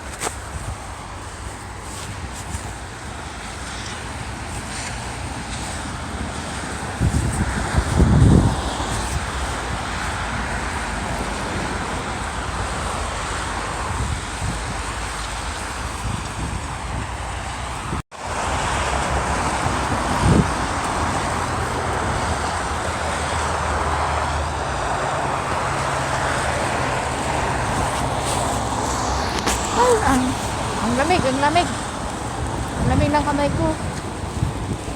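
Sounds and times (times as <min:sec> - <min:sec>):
traffic noise: 0:00.0 - 0:34.9
wind buffeting microphone: 0:00.0 - 0:34.9.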